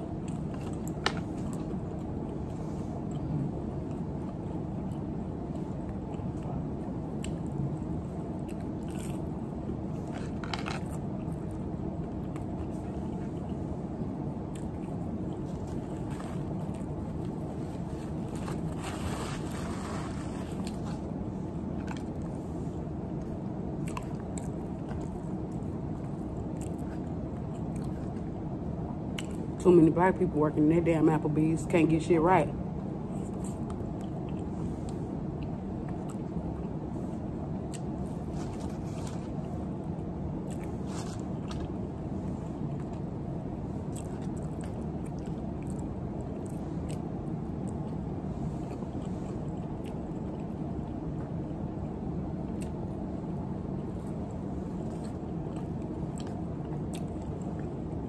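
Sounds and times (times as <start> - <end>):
close-up chewing and crunching: 0.0 - 29.6, 32.8 - 58.0.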